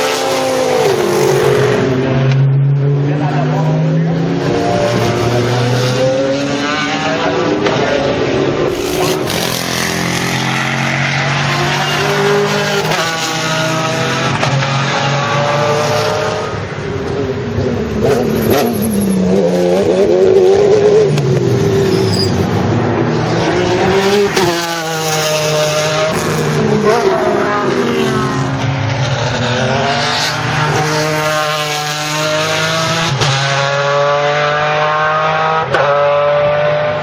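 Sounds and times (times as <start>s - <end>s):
race car engines passing: 0.0s - 37.0s.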